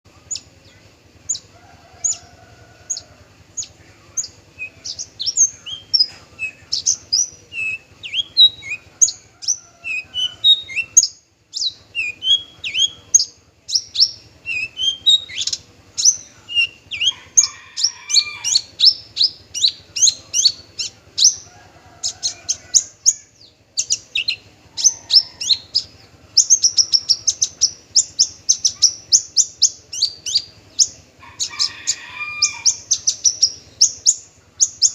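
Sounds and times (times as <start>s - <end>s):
bird singing chirps and whistles: 3.6s - 34.9s.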